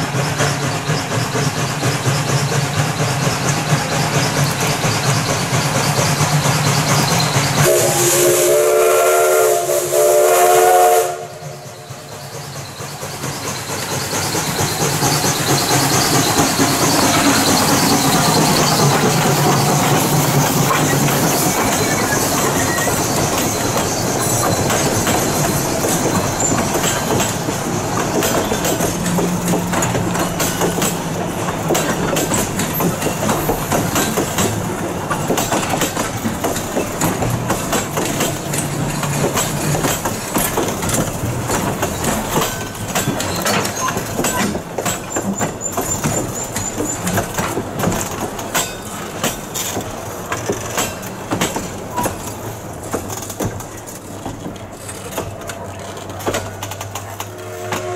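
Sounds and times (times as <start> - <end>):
train wheels clicking over rail joints: 0.0 - 57.9.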